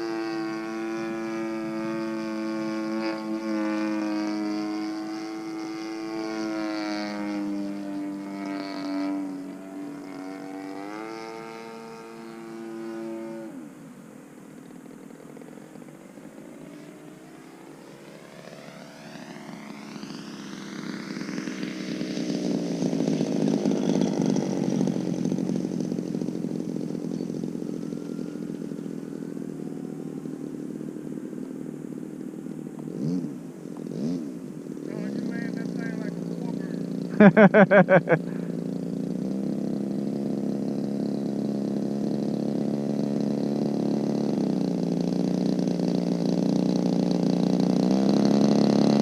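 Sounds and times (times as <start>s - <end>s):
model plane engine revving: 0.0s - 49.0s.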